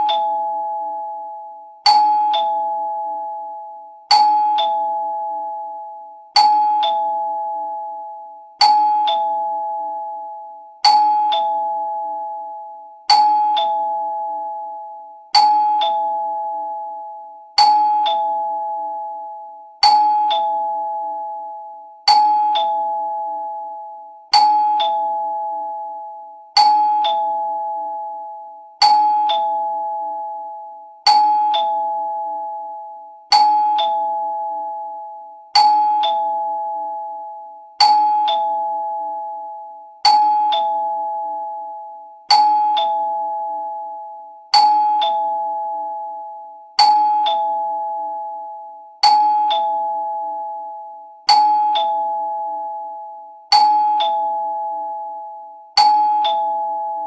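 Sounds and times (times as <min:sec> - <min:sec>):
two-tone doorbell chime: 0:00.0 - 0:57.0.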